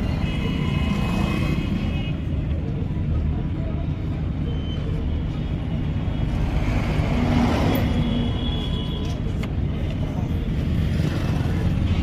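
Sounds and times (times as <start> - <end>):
rumble of passing road vehicles: 0.0 - 12.0.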